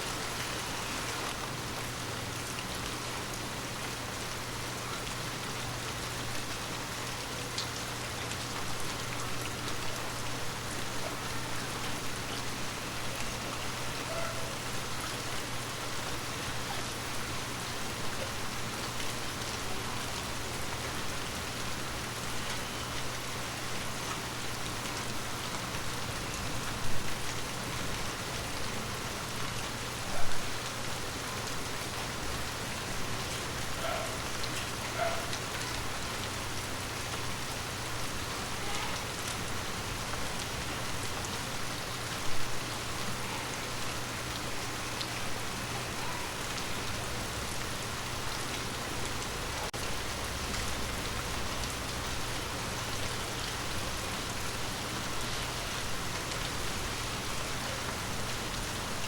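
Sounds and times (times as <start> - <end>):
rain pattering on leaves: 0.0 - 59.0.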